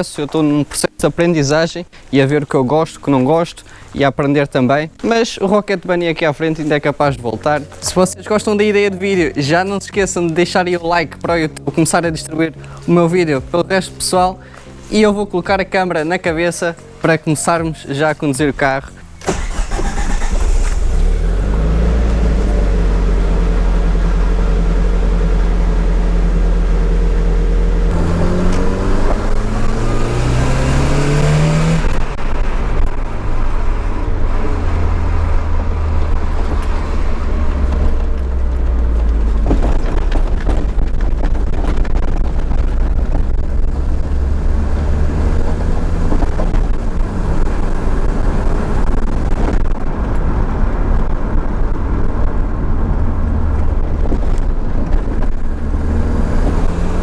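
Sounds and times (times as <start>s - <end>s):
road noise inside car: 6.2s - 57.0s
car engine revving: 6.6s - 57.0s.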